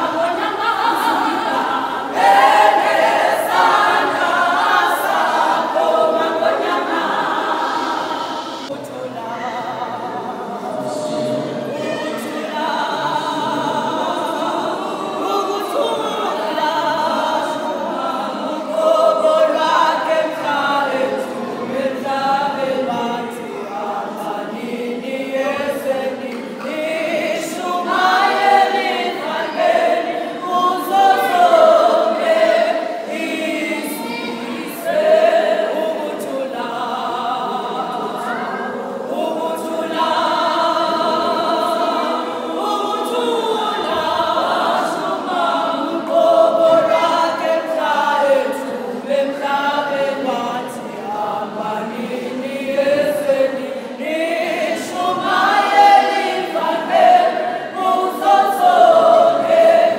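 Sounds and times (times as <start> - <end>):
women's choir singing: 0.0 - 59.9.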